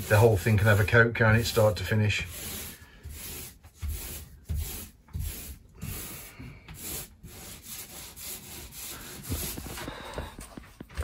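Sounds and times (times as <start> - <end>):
paint roller swishing on wall: 0.0 - 11.0.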